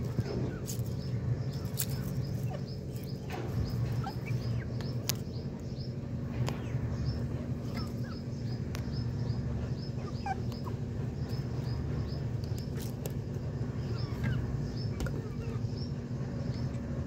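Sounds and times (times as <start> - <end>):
chickens chirping: 0.0 - 17.0
steady low rumble: 0.0 - 17.0.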